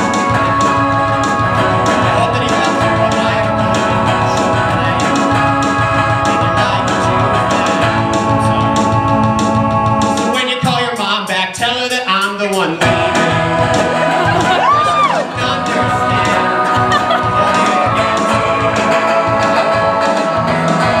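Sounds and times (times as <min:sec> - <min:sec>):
keyboard chords: 0:00.0 - 0:10.8, 0:12.8 - 0:21.0
electric guitar strumming: 0:00.0 - 0:11.2, 0:12.8 - 0:21.0.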